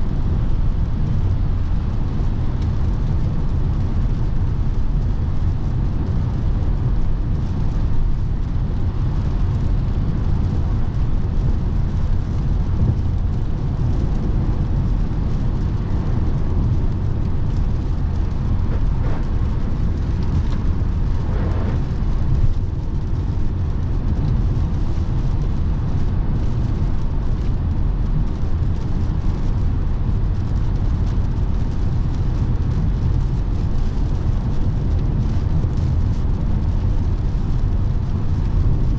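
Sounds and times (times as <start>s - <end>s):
tyre and wind noise: 0.0s - 38.9s.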